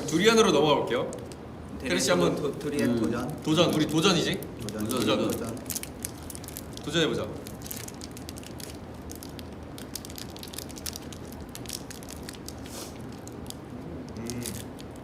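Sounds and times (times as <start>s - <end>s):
candy wrapper crinkling: 2.8s - 15.0s.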